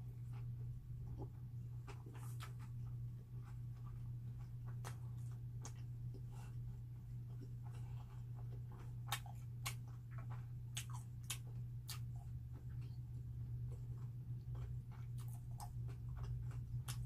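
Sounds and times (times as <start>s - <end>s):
steady low hum: 0.0s - 17.0s
person chewing: 0.3s - 17.0s.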